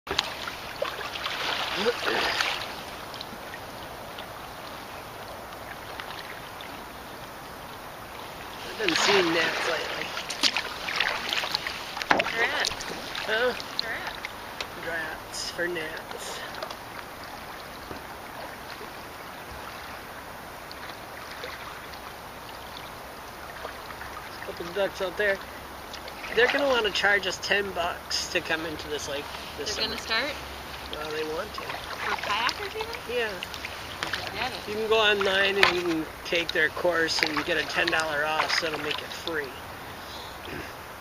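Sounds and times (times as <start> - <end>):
water drips: 0.1 - 40.5
light water splashing: 0.1 - 41.0.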